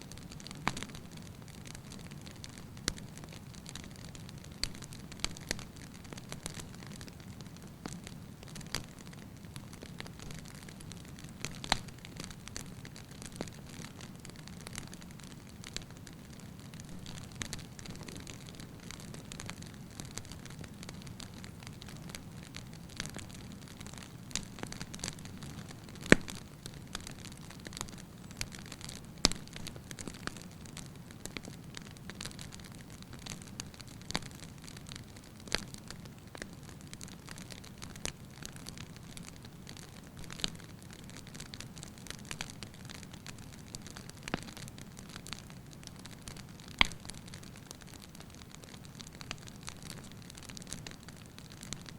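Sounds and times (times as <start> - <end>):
firewood crackling and popping: 0.0 - 51.9.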